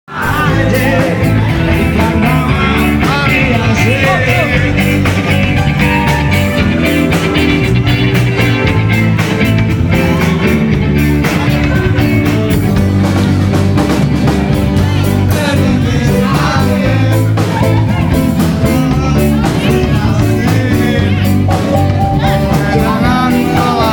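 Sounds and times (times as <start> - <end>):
person singing: 0.0 - 23.9
live band playing: 0.1 - 23.9.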